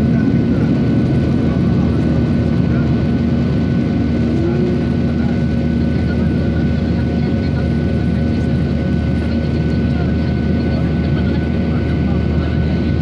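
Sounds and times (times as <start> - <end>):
airliner engines droning: 0.0 - 13.0.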